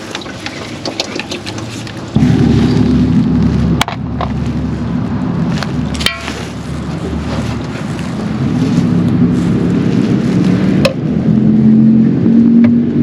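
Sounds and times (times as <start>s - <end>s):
low engine-like drone: 0.4s - 13.0s.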